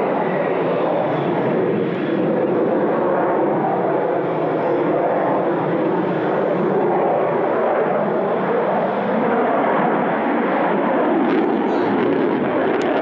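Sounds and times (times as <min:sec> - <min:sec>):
fighter jet engines in flight: 0:00.0 - 0:13.0.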